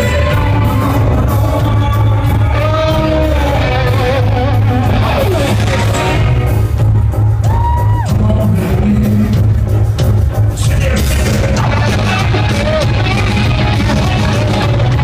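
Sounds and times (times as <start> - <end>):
person singing: 0.0 - 6.4, 7.5 - 9.7, 10.6 - 15.0
bass and drums: 0.0 - 15.0
electric guitar: 0.0 - 15.0.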